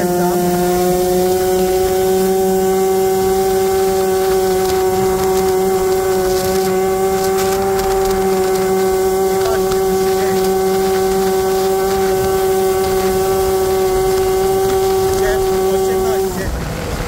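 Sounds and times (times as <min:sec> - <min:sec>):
two-stroke scooter engine wailing: 0:00.0 - 0:17.0.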